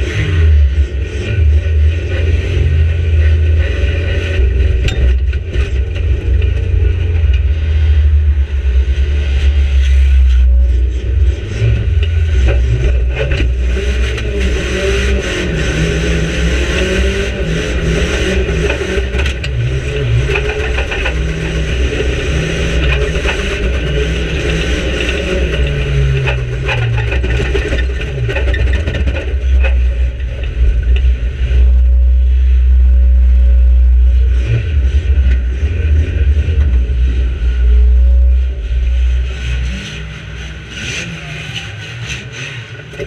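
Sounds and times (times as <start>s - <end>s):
heavy low rumble: 0.0s - 42.0s
racing car engine revving: 0.0s - 43.0s.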